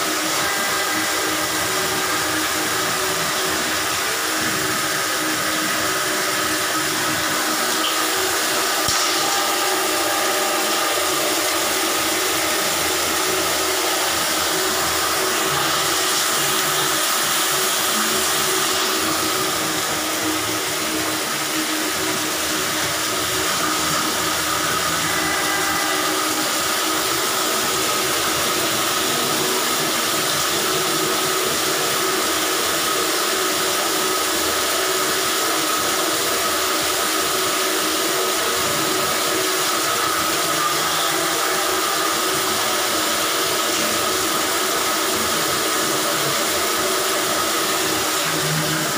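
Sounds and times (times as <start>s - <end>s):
drain-cleaning machine motor running: 0.0s - 48.9s.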